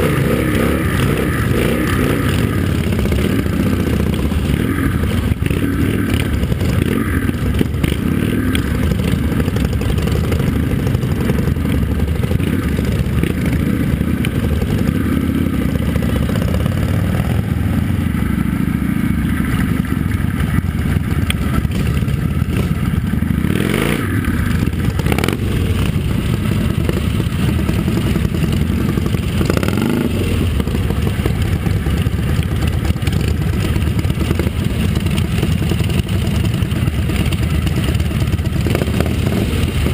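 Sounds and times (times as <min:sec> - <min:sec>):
motorcycle engine revving: 0:00.0 - 0:39.9
motorcycle engines running: 0:00.0 - 0:39.9.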